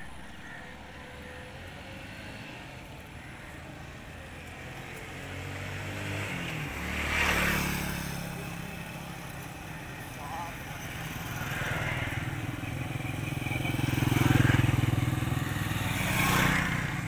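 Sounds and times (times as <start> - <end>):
vehicle engine passing by: 1.0 - 2.9, 4.4 - 17.0.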